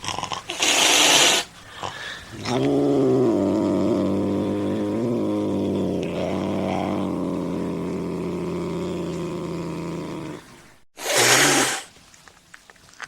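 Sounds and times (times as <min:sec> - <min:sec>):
cat growling: 0:00.0 - 0:11.8
cat hissing: 0:00.0 - 0:11.9.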